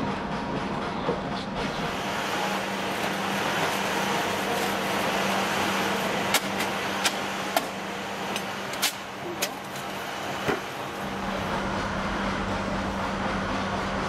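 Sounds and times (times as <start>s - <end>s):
workshop machinery hum: 0.0s - 14.0s.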